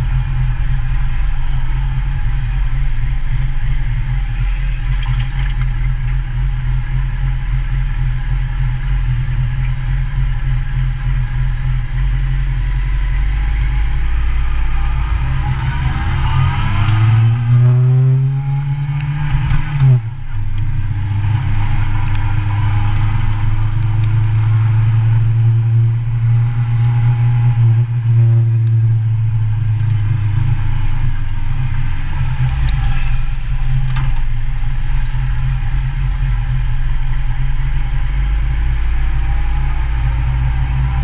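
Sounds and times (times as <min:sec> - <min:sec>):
deeper rumble: 0:00.0 - 0:41.0
motorcycle engine running: 0:00.0 - 0:41.0.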